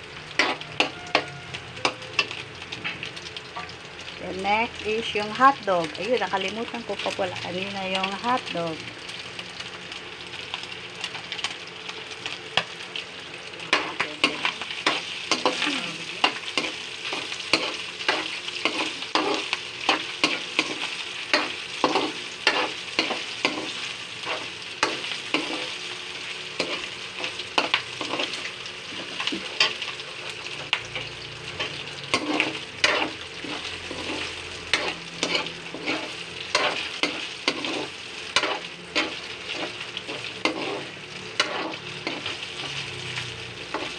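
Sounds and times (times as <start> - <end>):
food sizzling in a wok: 0.0 - 43.9.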